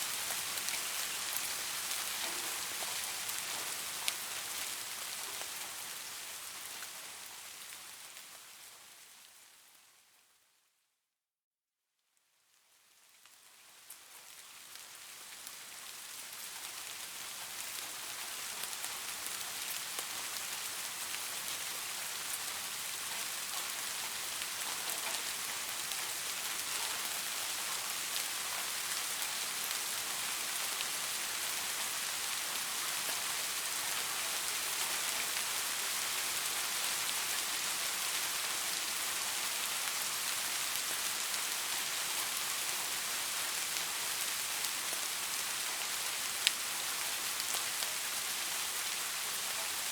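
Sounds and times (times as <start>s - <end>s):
rain falling on leaves: 0.0s - 10.5s, 12.2s - 49.9s.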